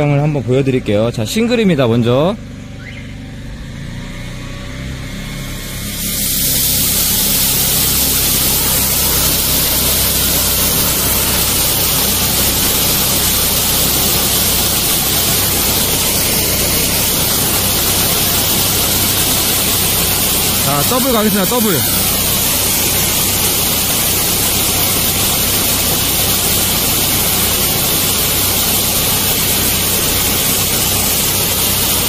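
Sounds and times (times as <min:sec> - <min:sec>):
engine drone: 0:00.0 - 0:32.0
high-pressure water spray hiss: 0:04.8 - 0:32.0.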